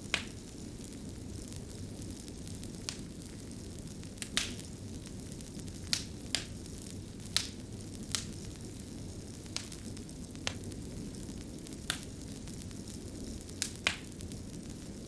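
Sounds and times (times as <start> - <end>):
fire popping: 0.0 - 15.0
wood fire crackling: 0.0 - 15.0.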